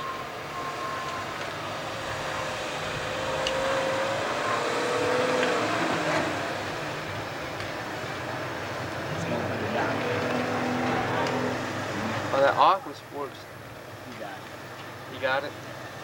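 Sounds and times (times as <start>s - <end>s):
car engine running under load: 0.0s - 16.0s.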